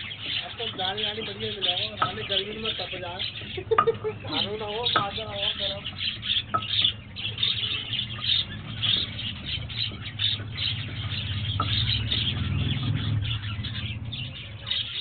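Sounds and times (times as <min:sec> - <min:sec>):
budgerigars chattering and chirping: 0:00.0 - 0:15.0
low vehicle rumble: 0:00.0 - 0:15.0.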